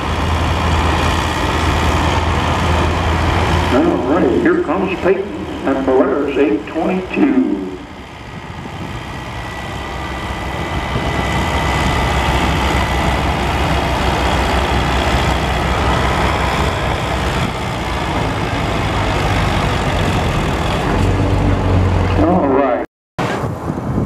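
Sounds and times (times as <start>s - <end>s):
tractor engine working hard: 0.0s - 23.7s.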